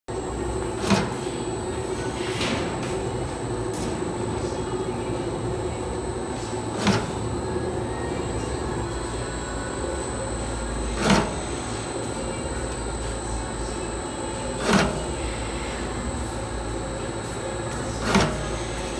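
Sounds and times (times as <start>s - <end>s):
machine humming: 0.1s - 18.9s.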